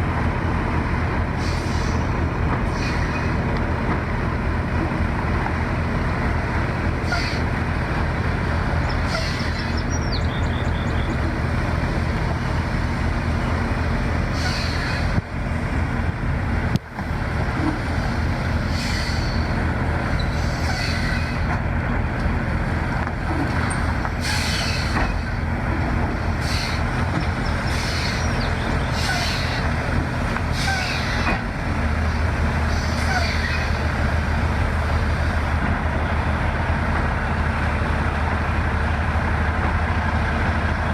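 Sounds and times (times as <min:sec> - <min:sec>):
large diesel engine droning: 0:00.0 - 0:40.9.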